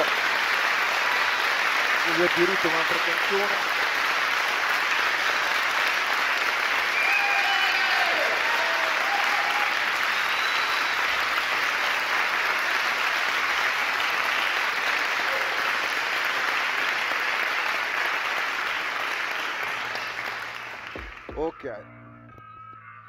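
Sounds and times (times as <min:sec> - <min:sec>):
audience applauding: 0:00.0 - 0:21.7.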